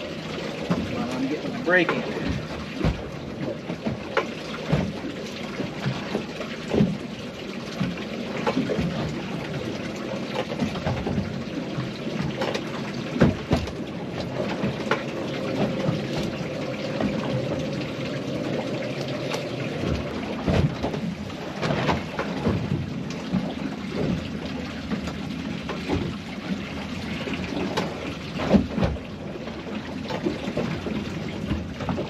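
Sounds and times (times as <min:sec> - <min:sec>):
small waves slapping boat: 0:00.0 - 0:32.0
wind and water rushing: 0:00.0 - 0:32.0.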